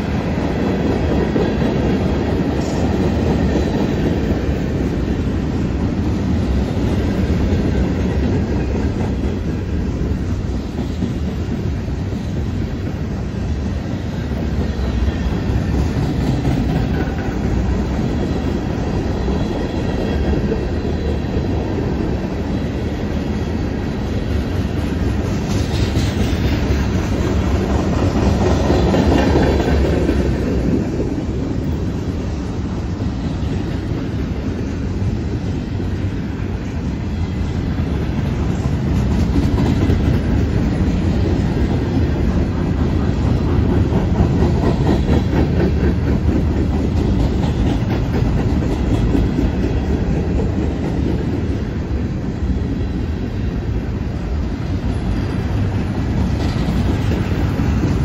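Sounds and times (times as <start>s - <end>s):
freight train wheels rumbling and clattering: 0.0s - 58.0s.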